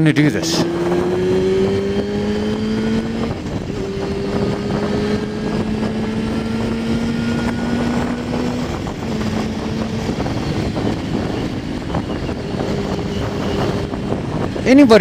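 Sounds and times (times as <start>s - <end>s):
motorcycle engine cruising: 0.0s - 15.0s
wind and road rush: 0.0s - 15.0s.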